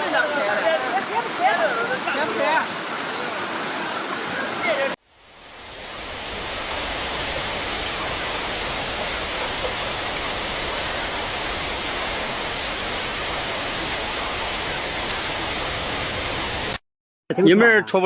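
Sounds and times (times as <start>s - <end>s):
heavy rain and floodwater rushing: 0.0s - 16.8s.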